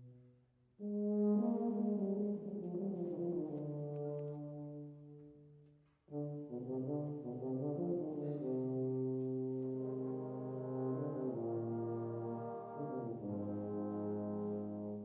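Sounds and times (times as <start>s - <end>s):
wind band with brass playing: 0.8s - 5.4s, 6.1s - 15.0s.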